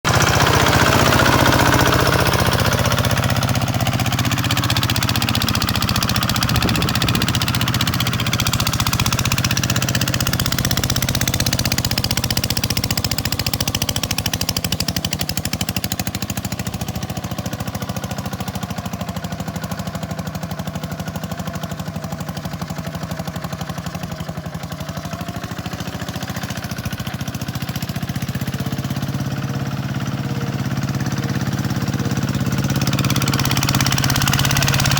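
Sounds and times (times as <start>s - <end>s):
tractor diesel engine knocking: 0.0s - 34.9s.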